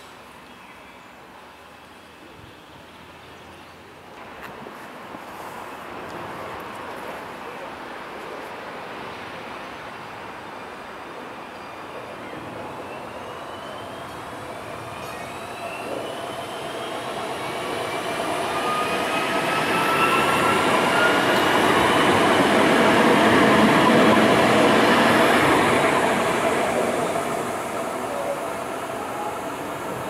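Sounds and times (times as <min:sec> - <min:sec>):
tram passing on rails: 0:02.8 - 0:30.0.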